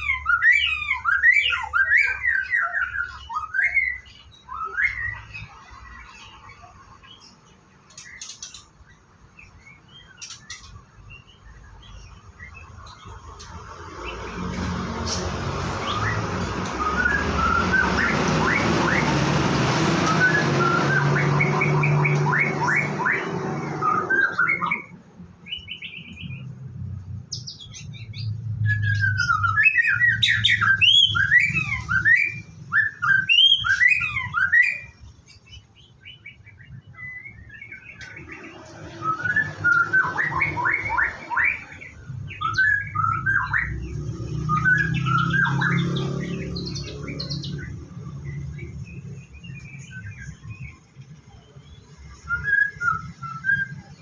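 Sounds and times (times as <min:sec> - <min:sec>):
bird singing whistled notes: 0:00.0 - 0:13.2, 0:14.2 - 0:54.0.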